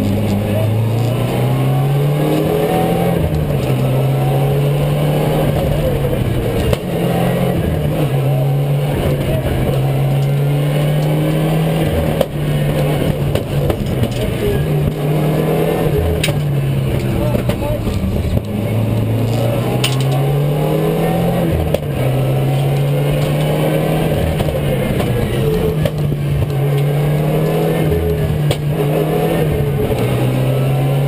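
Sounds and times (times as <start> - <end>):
rally car engine at high revs: 0.0 - 31.0.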